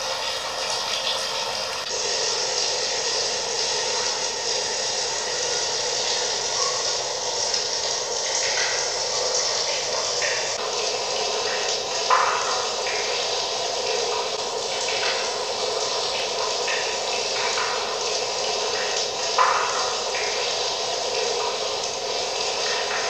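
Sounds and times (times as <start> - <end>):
running trickling water: 0.0 - 23.0.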